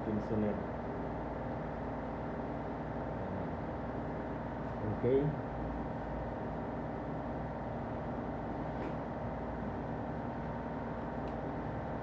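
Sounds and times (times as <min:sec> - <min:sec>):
mechanical hum with held tones: 0:00.0 - 0:12.0.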